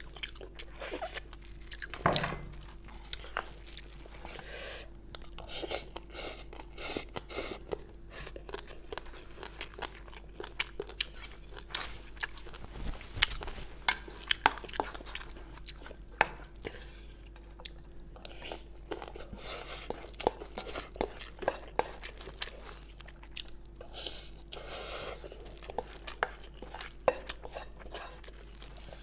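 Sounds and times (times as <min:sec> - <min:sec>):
wet chewing and lip smacking: 0:00.0 - 0:02.0, 0:02.6 - 0:12.6, 0:13.2 - 0:29.0.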